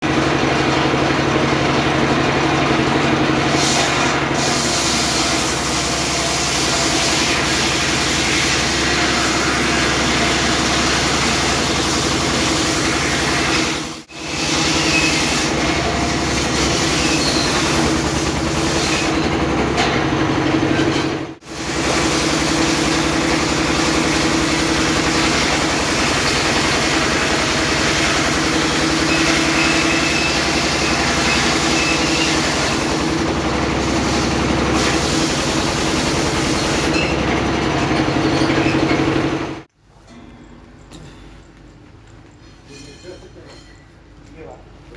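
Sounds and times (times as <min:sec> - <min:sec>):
sawmill engine and saw running: 0:00.0 - 0:39.7.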